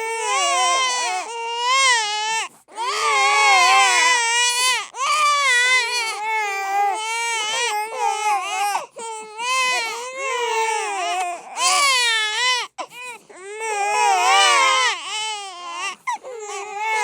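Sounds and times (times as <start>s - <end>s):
babies crying: 0.0s - 17.0s.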